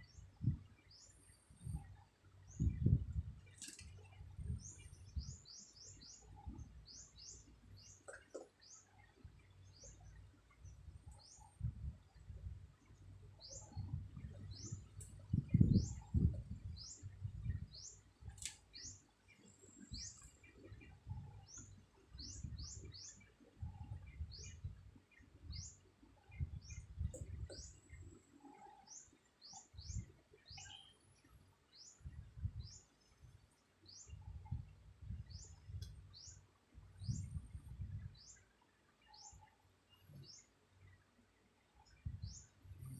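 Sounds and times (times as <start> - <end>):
bird chirping: 0.0 - 36.4, 37.0 - 42.9
soft low rumbles: 0.0 - 38.5.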